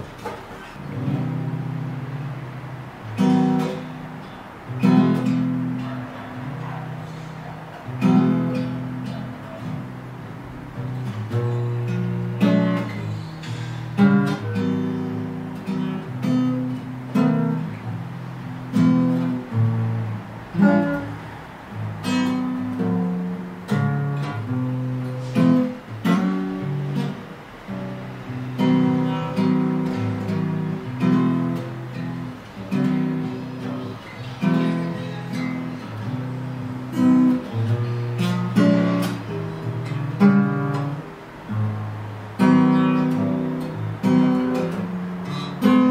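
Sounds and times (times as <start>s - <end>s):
acoustic guitar slow chords: 0.0s - 45.9s.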